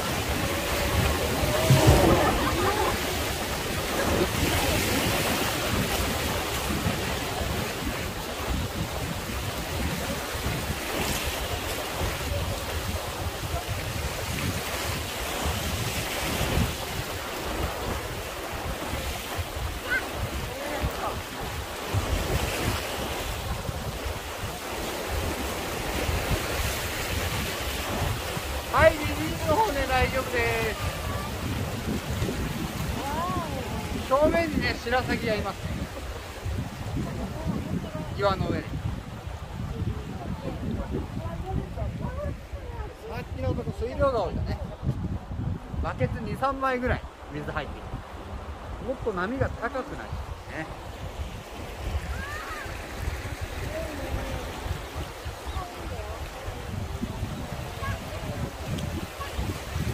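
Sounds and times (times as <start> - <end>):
river rapids rushing: 0.0 - 38.6, 46.5 - 59.9
wind buffeting microphone: 0.0 - 59.9.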